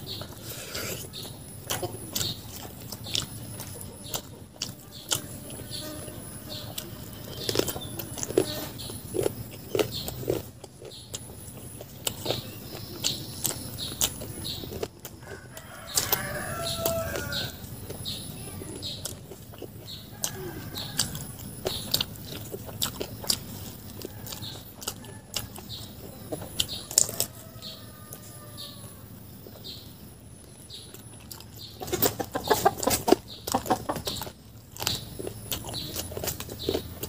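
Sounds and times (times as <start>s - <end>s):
man chewing and lip-smacking: 0.0s - 16.1s, 17.1s - 28.2s, 30.4s - 37.0s.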